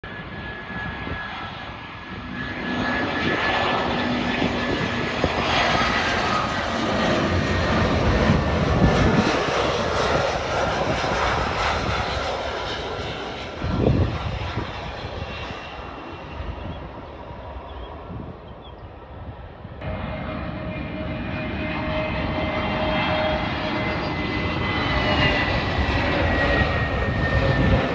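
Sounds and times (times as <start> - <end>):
jet airliner engines passing: 0.0 - 27.9.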